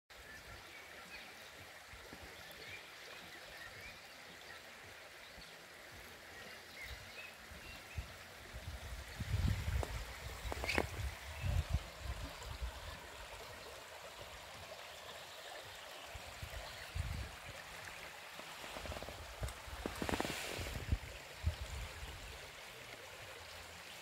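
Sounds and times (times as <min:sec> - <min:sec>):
stream running over stones: 0:00.1 - 0:24.0.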